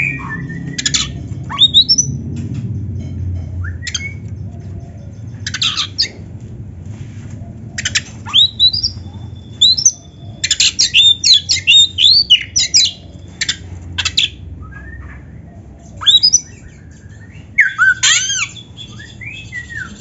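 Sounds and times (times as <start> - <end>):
bird singing: 0.0 - 6.2, 7.7 - 20.0
low background rumble: 0.0 - 20.0.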